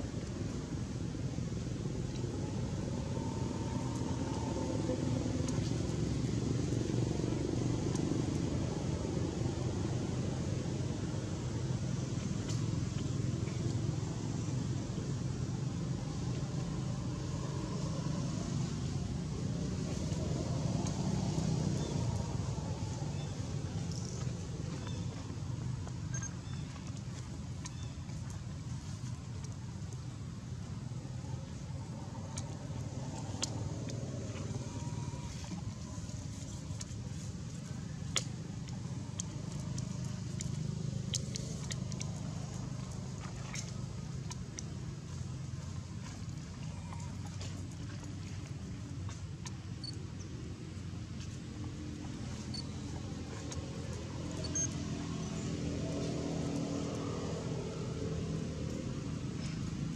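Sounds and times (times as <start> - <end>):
low background rumble: 0.0 - 59.9.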